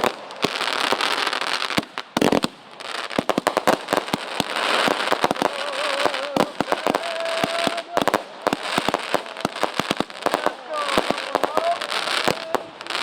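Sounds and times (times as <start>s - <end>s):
fireworks crackle: 0.0s - 13.0s
fireworks pops and bangs: 0.0s - 13.0s.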